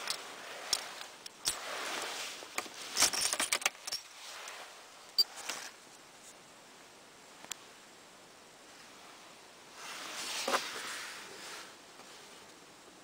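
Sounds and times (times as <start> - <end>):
rustling: 0.0 - 6.4, 8.7 - 12.7.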